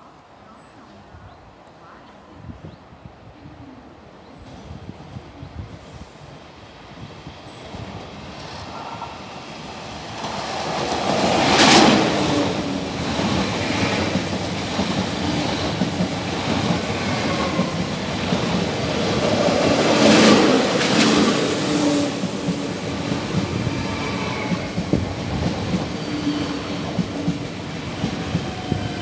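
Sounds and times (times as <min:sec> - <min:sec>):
train running by: 0:04.0 - 0:29.0.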